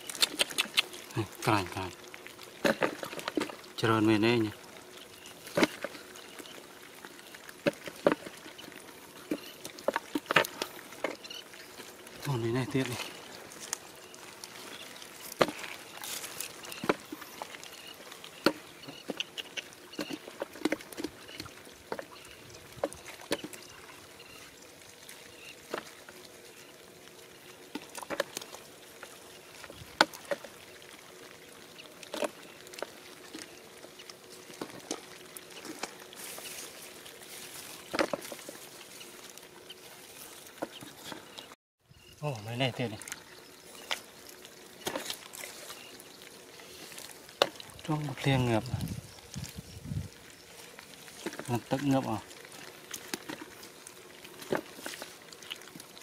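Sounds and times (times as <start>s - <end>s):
fish flopping on dry mud: 0.0s - 3.9s, 4.5s - 41.6s, 42.8s - 56.0s.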